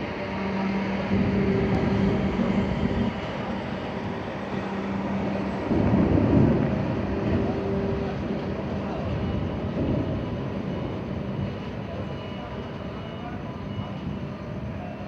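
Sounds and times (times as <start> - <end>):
constant low hum: 0.0 - 14.9.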